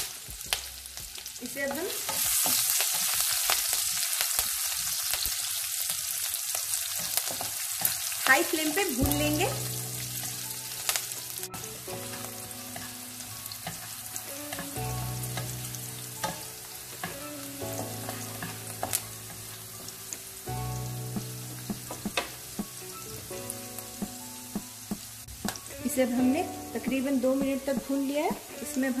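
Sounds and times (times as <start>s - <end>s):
garlic sizzling in oil: 0.0s - 29.0s.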